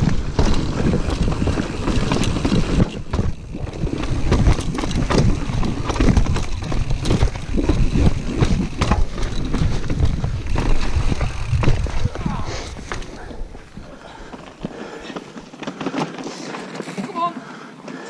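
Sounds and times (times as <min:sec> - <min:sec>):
tyres rumbling: 0:00.0 - 0:16.8
mountain bike rattling over rocks: 0:00.0 - 0:17.3
wheels knocking on rocks: 0:00.0 - 0:17.3.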